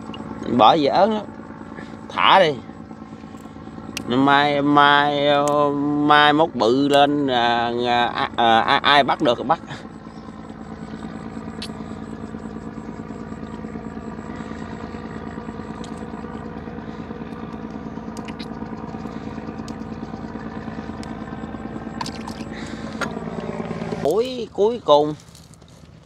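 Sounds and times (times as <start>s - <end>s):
small boat engine running: 0.0s - 26.0s.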